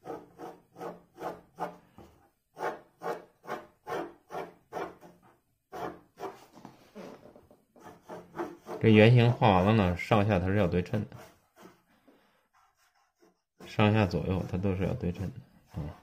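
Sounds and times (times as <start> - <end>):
pencil scratching on paper: 0.0 - 1.8, 2.5 - 7.2, 7.8 - 16.0.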